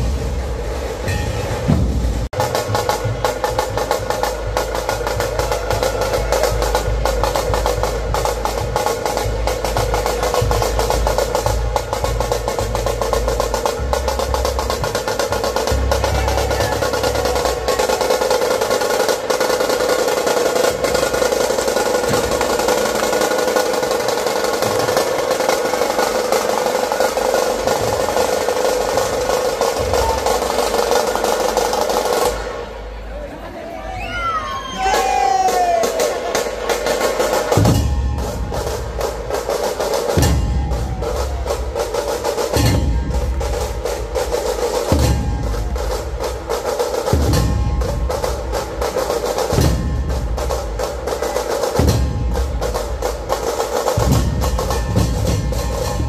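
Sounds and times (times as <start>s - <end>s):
deep drum beats: 0.0s - 32.8s, 34.9s - 56.0s
fast drum rolls: 0.0s - 33.0s, 34.6s - 56.0s.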